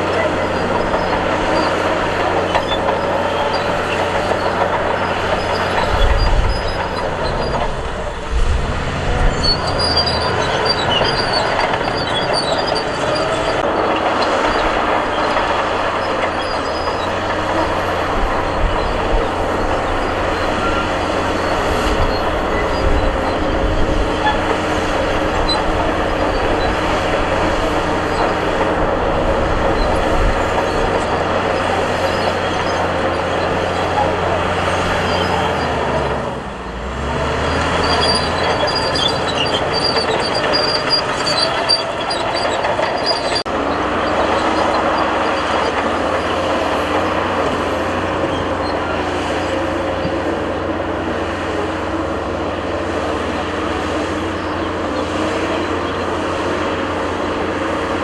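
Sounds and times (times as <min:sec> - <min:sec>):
bulldozer diesel engine drone: 0:00.0 - 0:58.0
metal track clanking and squeal: 0:00.0 - 0:58.0.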